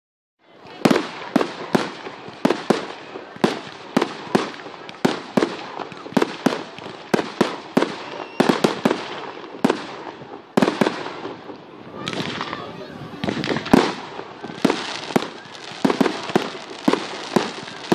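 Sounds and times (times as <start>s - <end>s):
fireworks bangs: 0.6s - 17.9s
fireworks hiss: 0.8s - 17.9s.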